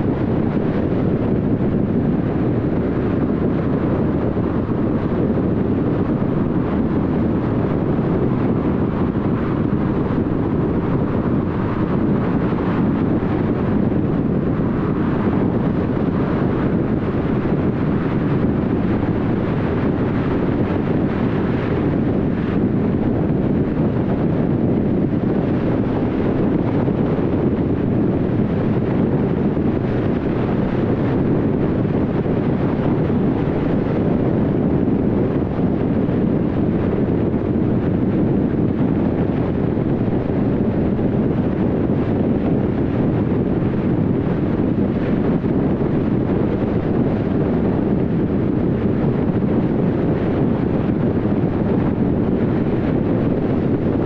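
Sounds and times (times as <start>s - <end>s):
tyre and wind road noise: 0.0s - 54.0s.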